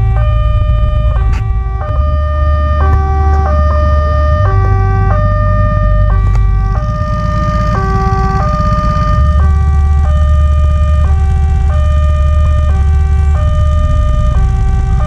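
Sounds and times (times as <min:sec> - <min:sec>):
electronic crossing alarm tones: 0:00.0 - 0:15.0
steady low rumble: 0:00.0 - 0:15.0.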